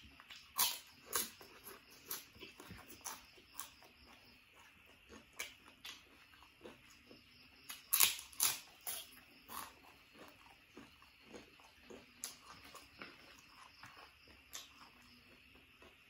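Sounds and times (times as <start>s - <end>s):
crunchy food chewing: 0.0s - 16.0s.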